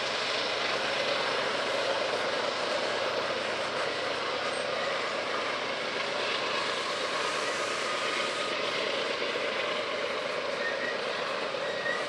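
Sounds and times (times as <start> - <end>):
locomotive engine drone: 0.0 - 12.0
train rumble: 0.0 - 12.0.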